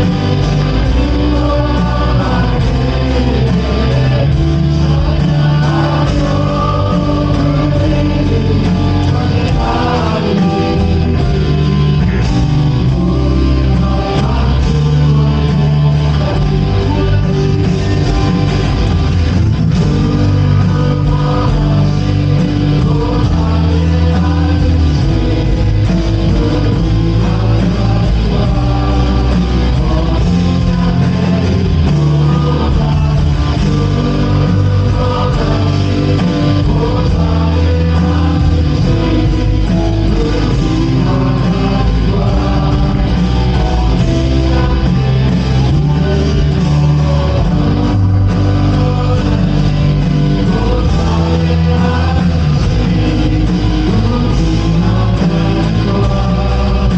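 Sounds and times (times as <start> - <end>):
person singing: 0.0 - 56.9
worship band playing: 0.0 - 56.9.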